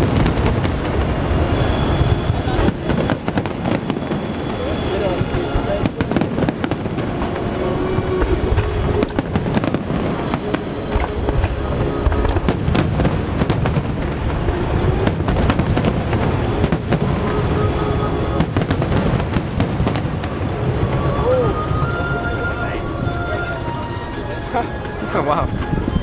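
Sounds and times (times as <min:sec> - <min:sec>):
fireworks bangs: 0:00.0 - 0:26.0
music playing: 0:00.0 - 0:26.0.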